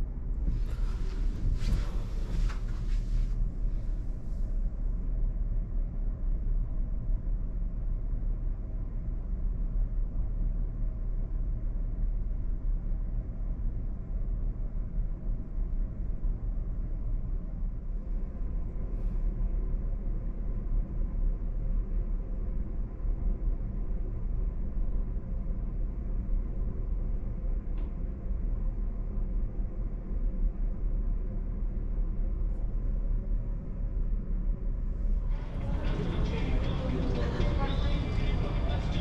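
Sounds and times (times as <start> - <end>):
ship machinery rumble and hum: 0.0 - 39.0.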